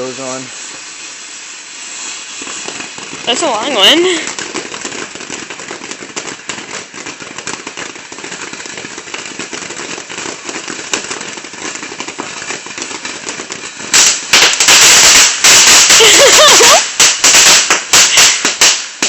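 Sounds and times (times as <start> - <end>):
firework crackling pops: 0.0 - 19.0.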